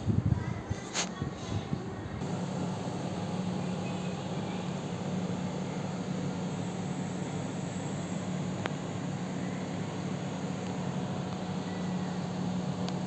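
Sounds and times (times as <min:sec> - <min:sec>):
air conditioner humming: 0:02.0 - 0:13.0.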